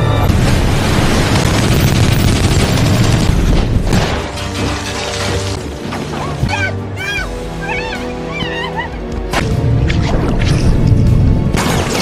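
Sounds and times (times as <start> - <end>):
film score music: 0.0 - 12.0.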